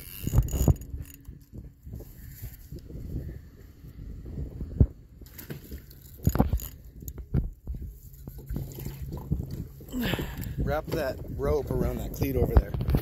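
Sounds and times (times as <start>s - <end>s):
low rumbling handling noise: 0.0s - 13.0s
low steady hum: 0.0s - 13.0s.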